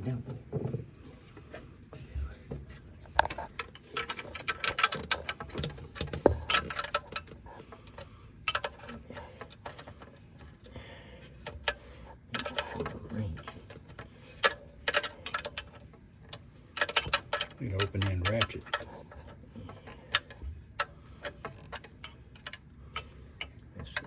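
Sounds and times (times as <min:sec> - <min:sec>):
tools and metal parts clinking: 0:02.6 - 0:24.0.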